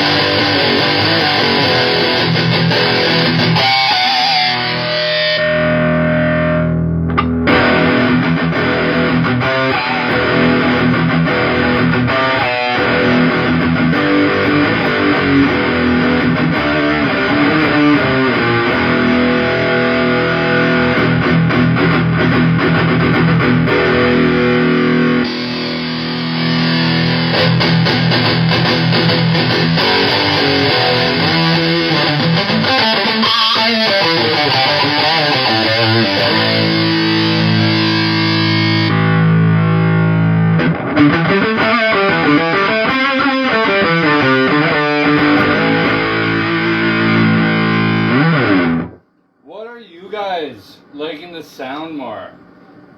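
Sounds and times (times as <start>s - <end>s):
fuzzed electric guitar riffing: 0.0s - 52.9s.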